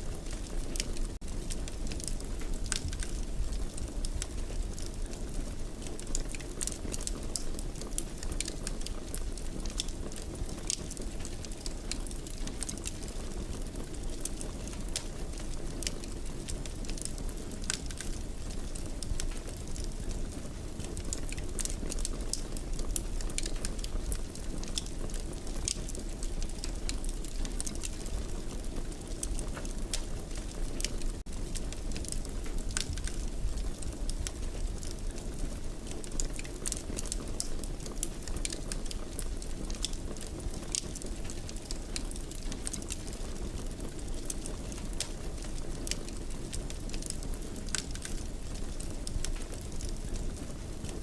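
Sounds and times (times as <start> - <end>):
low rumble of flames: 0.0 - 51.0
wood fire crackling and popping: 0.0 - 51.0.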